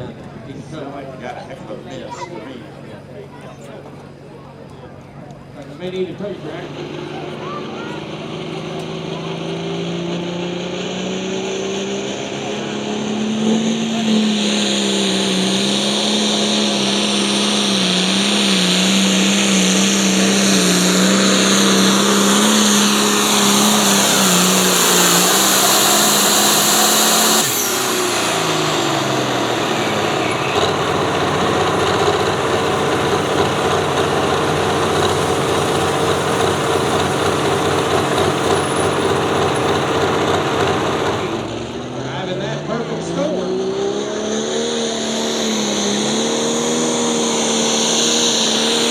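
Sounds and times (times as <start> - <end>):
engine running at high revs: 0.0 - 48.9
higher-pitched engine running: 0.0 - 48.9.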